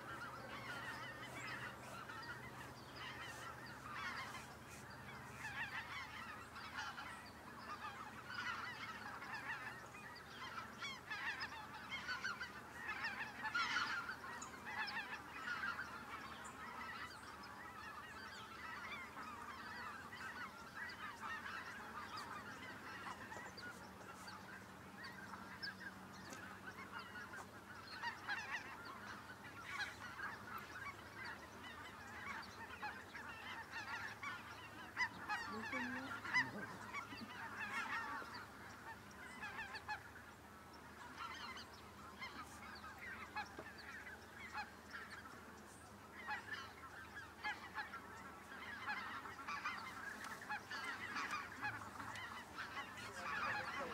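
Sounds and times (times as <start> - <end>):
flock of geese honking: 0.0 - 53.9.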